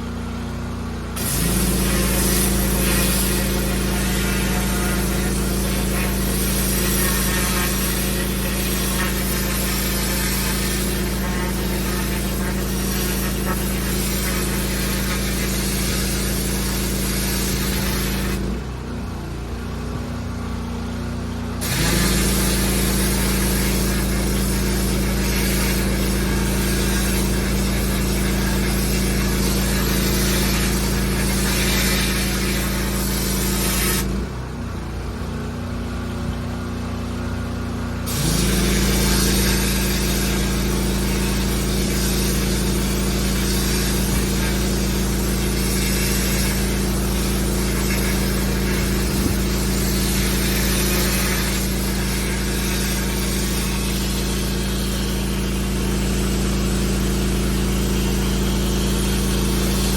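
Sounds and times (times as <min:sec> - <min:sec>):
high-pressure water spraying: 0:00.0 - 0:19.7, 0:21.4 - 0:34.6, 0:36.8 - 0:59.9
pressure washer engine hum: 0:00.0 - 0:59.9.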